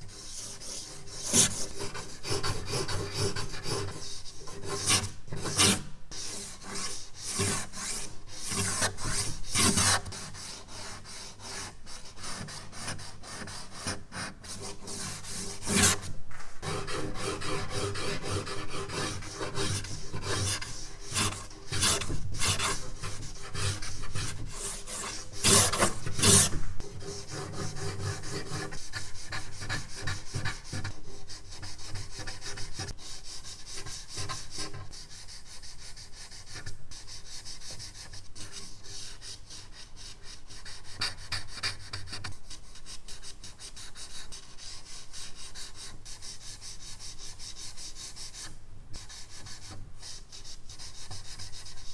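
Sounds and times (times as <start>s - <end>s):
charcoal scratching on paper: 0.0s - 51.9s.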